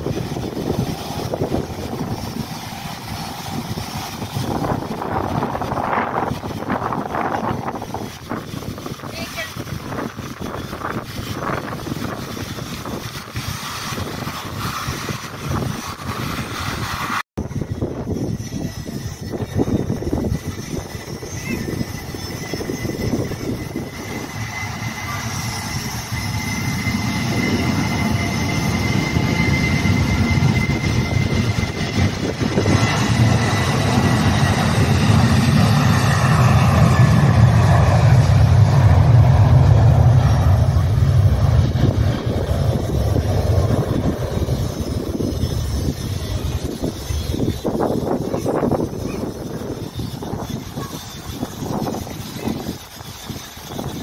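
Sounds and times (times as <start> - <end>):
jet engines running: 0.0 - 54.0
wind buffeting microphone: 0.0 - 54.0.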